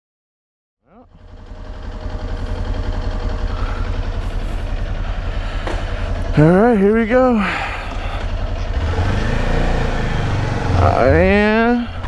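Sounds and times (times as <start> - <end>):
motorcycle engine idling: 1.0 - 12.0.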